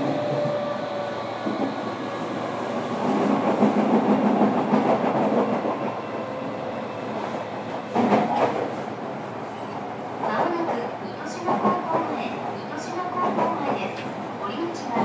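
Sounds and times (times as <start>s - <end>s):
train wheel and track noise: 0.0s - 15.0s.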